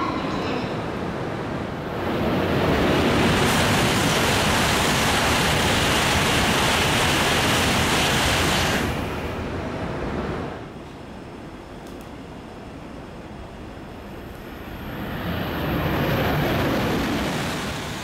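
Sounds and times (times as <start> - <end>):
high-speed train passing: 0.0 - 18.0.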